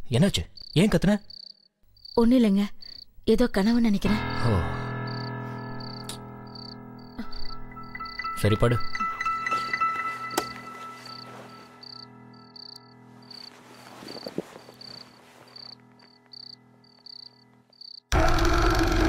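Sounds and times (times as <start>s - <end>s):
crickets chirping: 0.1s - 3.2s, 5.0s - 18.1s.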